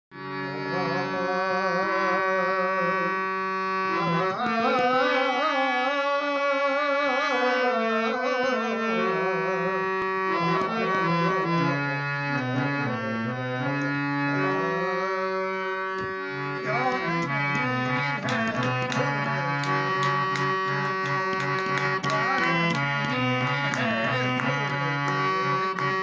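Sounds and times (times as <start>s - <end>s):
harmonium playing chords: 0.1s - 26.0s.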